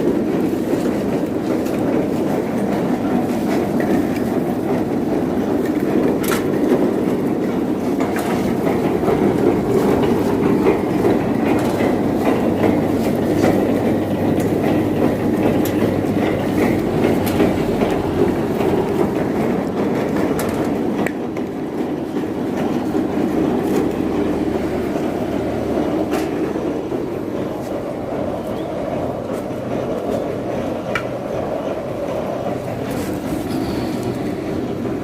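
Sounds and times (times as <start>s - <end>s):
husking machine rumble: 0.0s - 35.0s.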